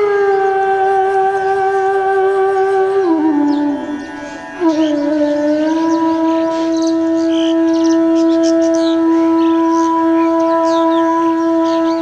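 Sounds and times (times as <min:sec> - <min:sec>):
wind instrument long note: 0:00.0 - 0:12.0.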